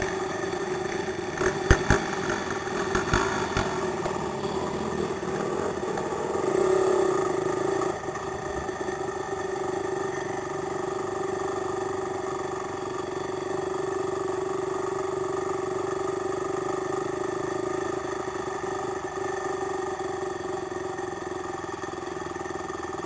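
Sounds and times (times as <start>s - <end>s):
quad engine running: 0.0s - 23.0s.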